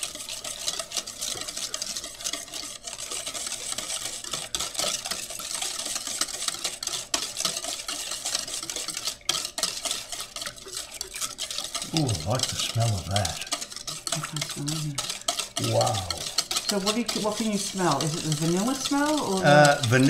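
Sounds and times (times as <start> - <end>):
whisk scraping metal bowl: 0.0 - 20.0.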